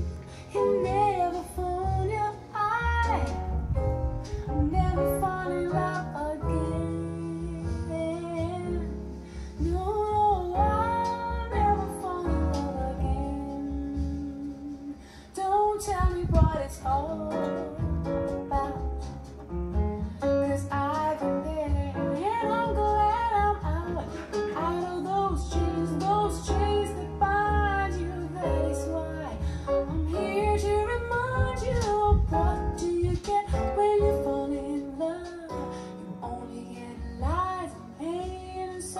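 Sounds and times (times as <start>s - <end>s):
song with guitar and bass: 0.0s - 38.9s.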